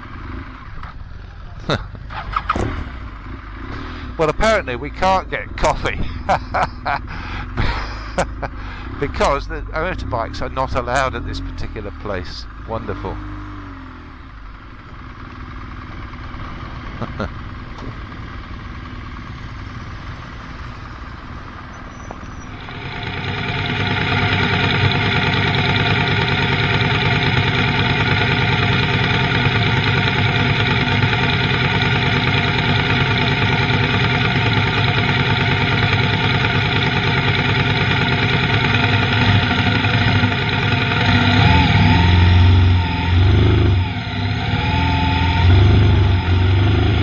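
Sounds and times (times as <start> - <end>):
motorcycle running: 0.0 - 47.0.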